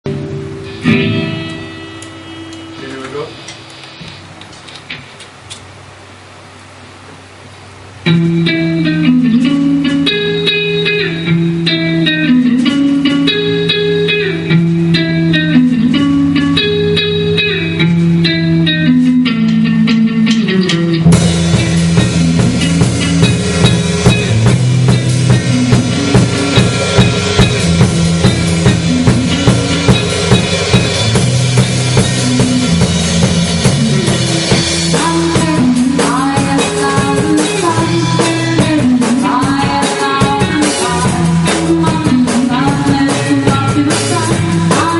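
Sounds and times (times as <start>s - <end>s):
guitar riff: 0.0s - 4.5s, 8.0s - 44.9s
drum kit with cymbals: 0.1s - 6.2s, 8.1s - 44.9s.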